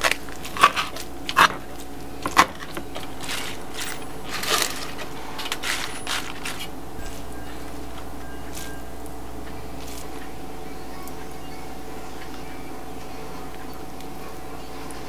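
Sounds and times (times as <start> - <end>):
lettuce leaves crinkling: 0.0 - 15.0.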